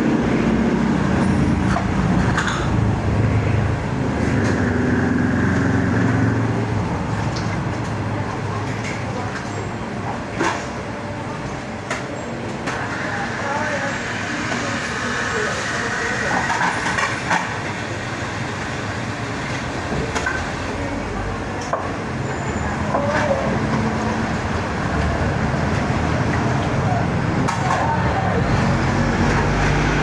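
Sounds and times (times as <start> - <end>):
vehicle low rumble: 0.0 - 11.8, 16.6 - 30.0
road noise: 0.0 - 30.0.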